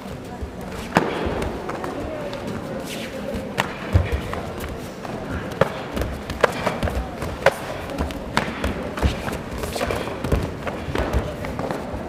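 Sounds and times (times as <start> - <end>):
bare feet shuffling on mats: 0.0 - 12.0.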